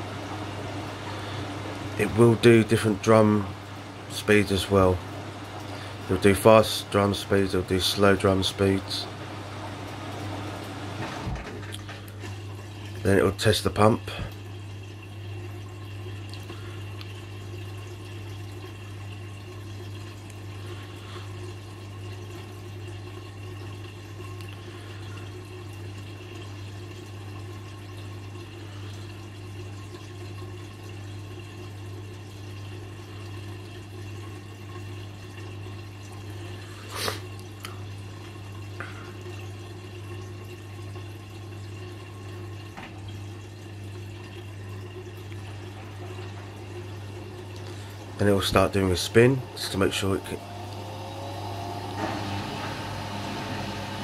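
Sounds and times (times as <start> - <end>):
drain pump humming: 0.0 - 54.0
water draining and trickling: 0.0 - 54.0.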